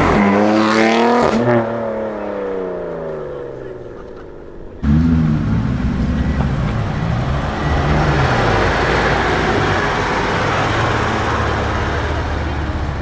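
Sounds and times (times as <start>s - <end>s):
car engine and exhaust: 0.0s - 13.0s.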